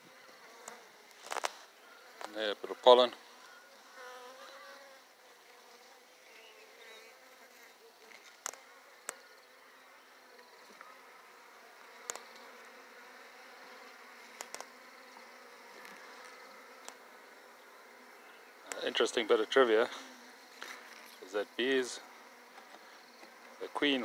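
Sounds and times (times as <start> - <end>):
bees humming: 0.0 - 24.0.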